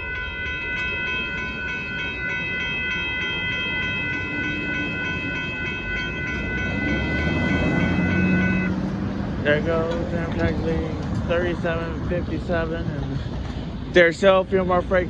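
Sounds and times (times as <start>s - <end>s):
crossing warning bell ringing: 0.0s - 15.0s
train rumbling past: 0.0s - 15.0s.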